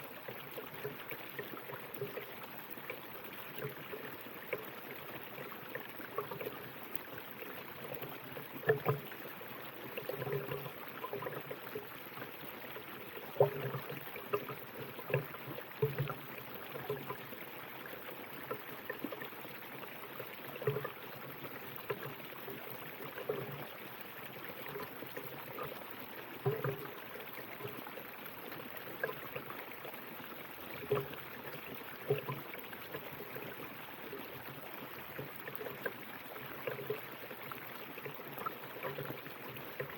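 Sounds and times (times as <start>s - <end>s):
water gurgling and splashing: 0.0s - 39.9s.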